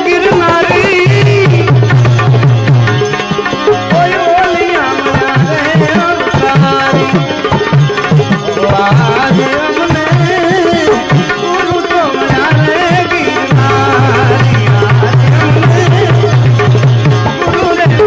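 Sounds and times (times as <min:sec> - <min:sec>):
devotional song: 0:00.0 - 0:18.0
tabla beat: 0:00.0 - 0:18.0.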